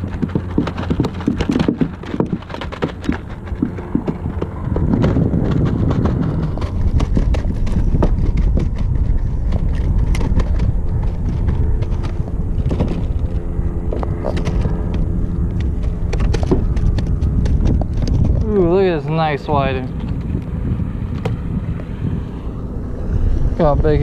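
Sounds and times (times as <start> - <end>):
gear clicks and knocks: 0.0 - 21.9
wind rumble on microphone: 0.0 - 24.0.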